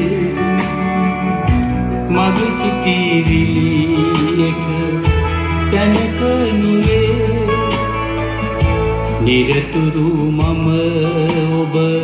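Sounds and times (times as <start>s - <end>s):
guitar music from loudspeakers: 0.0s - 12.0s.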